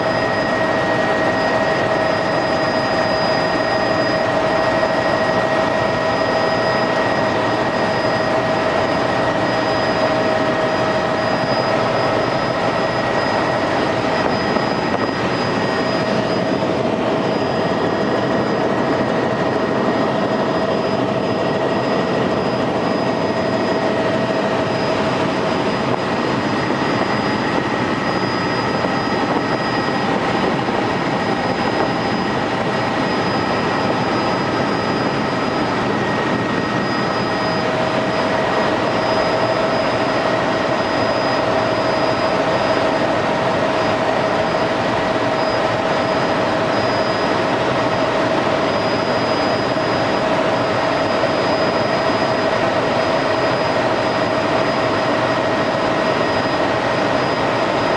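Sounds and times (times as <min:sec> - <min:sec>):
helicopter engine and rotors: 0:00.0 - 0:57.9
high whine: 0:00.0 - 0:57.9.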